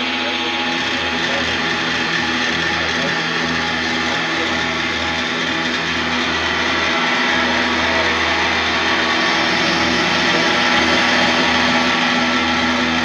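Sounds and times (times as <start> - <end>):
harsh wall of noise: 0.0 - 13.0
steady low drone: 0.0 - 13.0.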